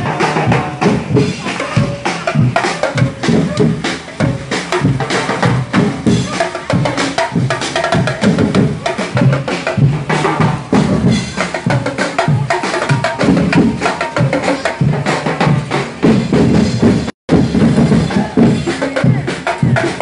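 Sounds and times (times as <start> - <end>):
drums beating: 0.0 - 20.0
marching band playing: 0.0 - 20.0.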